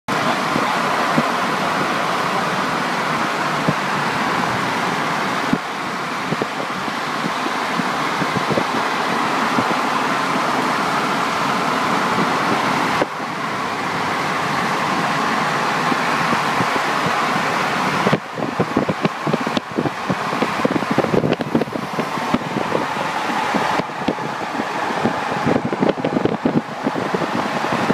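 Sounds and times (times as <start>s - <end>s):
tyres humming on road: 0.1s - 27.9s
wind noise: 3.2s - 27.9s.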